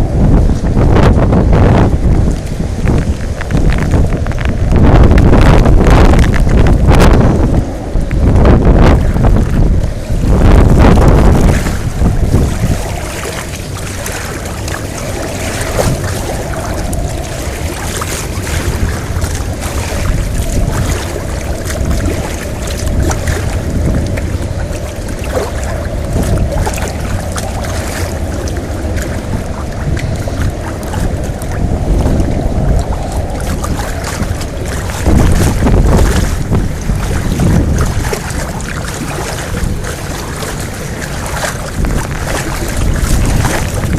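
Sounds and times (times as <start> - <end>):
rushing wind and water: 0.0 - 43.9
wind buffeting microphone: 0.0 - 43.9.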